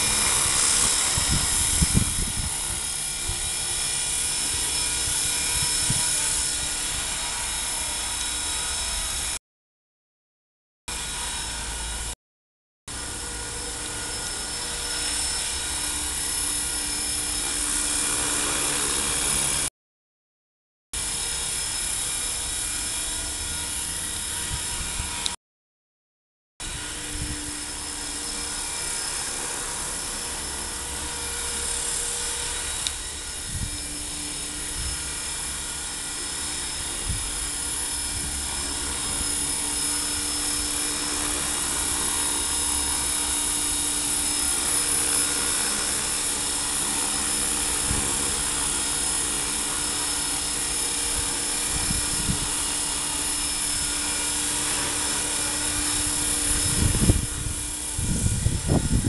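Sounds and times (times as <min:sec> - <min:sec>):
electric motor whine: 0:00.0 - 0:09.4, 0:10.9 - 0:12.2, 0:12.9 - 0:19.7, 0:21.0 - 0:25.4, 0:26.6 - 0:59.0.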